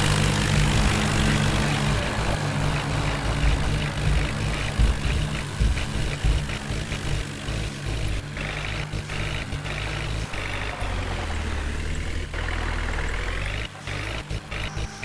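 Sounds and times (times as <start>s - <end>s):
heavy diesel engine running: 0.0s - 15.0s
high machine whine: 0.0s - 15.0s.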